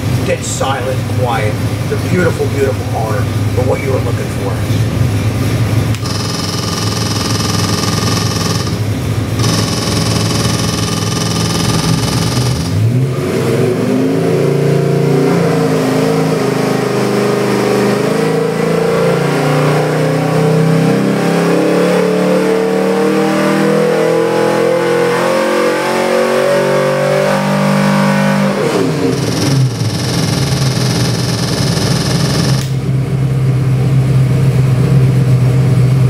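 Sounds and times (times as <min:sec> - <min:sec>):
engine revving on dyno: 0:00.0 - 0:36.0.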